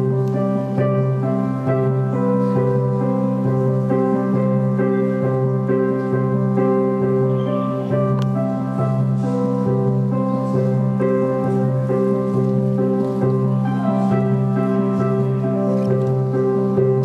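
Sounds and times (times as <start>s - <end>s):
keyboard music: 0.0s - 17.0s.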